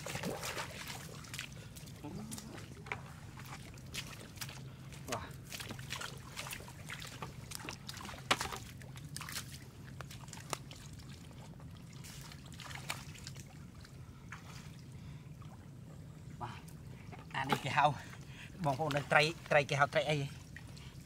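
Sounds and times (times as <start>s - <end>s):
low steady hum: 0.0s - 21.0s
water splashing and trickling: 0.0s - 21.0s.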